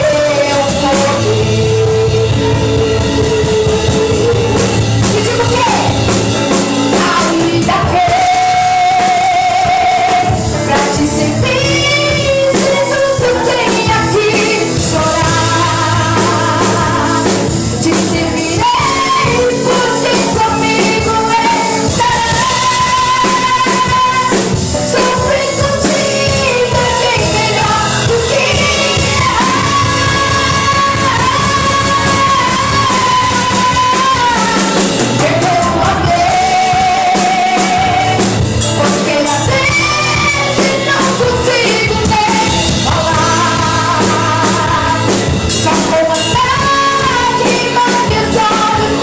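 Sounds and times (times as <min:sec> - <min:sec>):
band music: 0:00.0 - 0:49.0.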